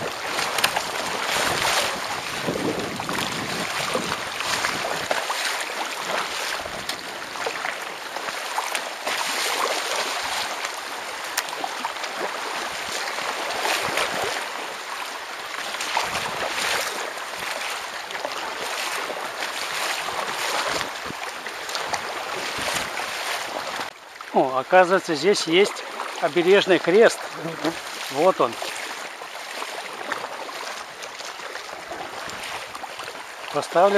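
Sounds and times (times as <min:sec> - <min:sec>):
water splashing at kayak bow: 0:00.0 - 0:33.9.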